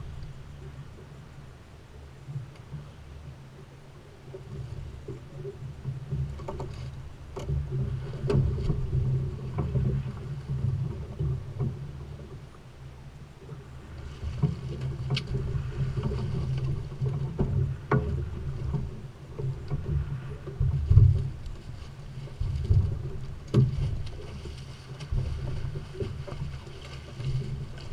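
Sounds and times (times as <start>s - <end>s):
diesel boat engine rumble: 0.0s - 27.9s
water washing along hull: 0.0s - 27.9s.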